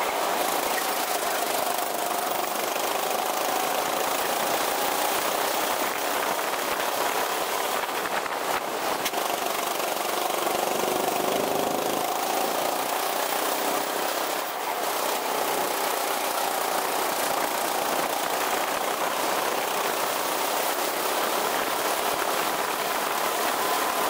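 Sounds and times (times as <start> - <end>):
go-kart engine revving: 0.0 - 24.0.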